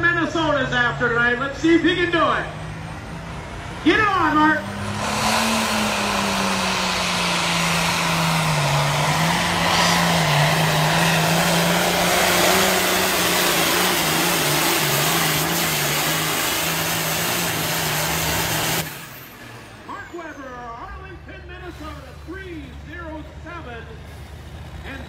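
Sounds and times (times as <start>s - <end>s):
diesel tractor engine at full throttle: 0.0s - 25.0s.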